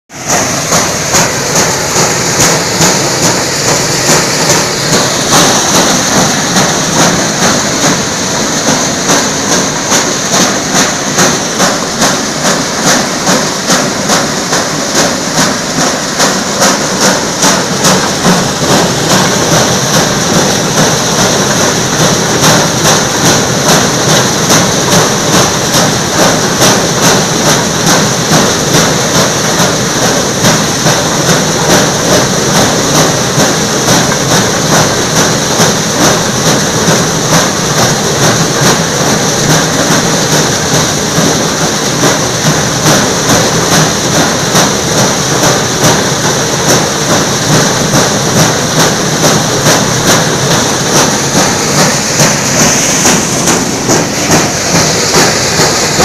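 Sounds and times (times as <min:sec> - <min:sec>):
corn sheller mechanical clatter: 0:00.1 - 0:56.0.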